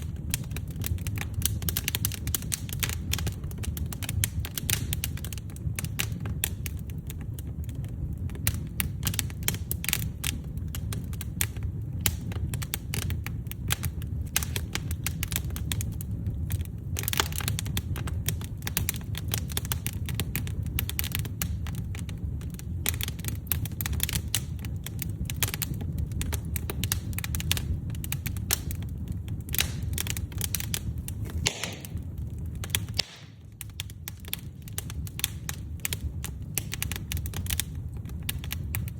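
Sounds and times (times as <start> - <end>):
firewood crackling and popping: 0.0 - 38.9
low rumble of flame: 0.0 - 38.9.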